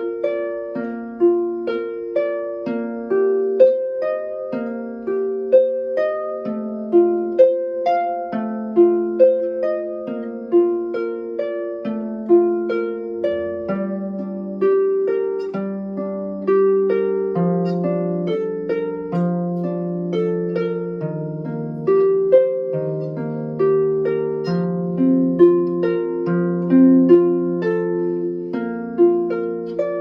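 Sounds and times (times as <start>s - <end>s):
solo harp melody: 0.0s - 30.0s.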